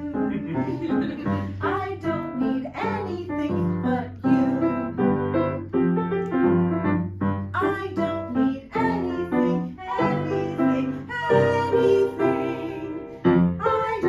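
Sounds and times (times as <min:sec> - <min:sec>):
piano accompaniment music: 0:00.0 - 0:14.0.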